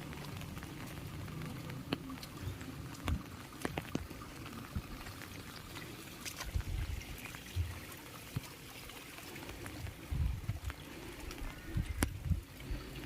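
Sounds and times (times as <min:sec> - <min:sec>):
heavy rain: 0:00.0 - 0:13.0
sharp drips: 0:00.0 - 0:13.0
water pouring and trickling: 0:00.0 - 0:13.0.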